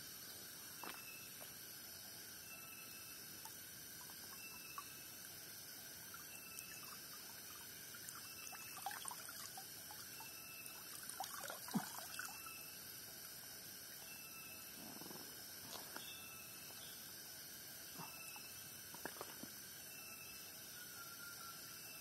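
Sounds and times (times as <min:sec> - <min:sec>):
chorus of insects: 0:00.0 - 0:22.0
short repeating insect call: 0:00.0 - 0:22.0.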